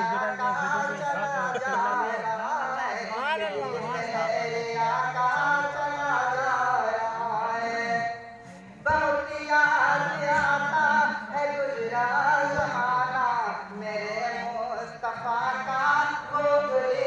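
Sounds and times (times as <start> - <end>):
man singing over a pa: 0.0 - 17.0.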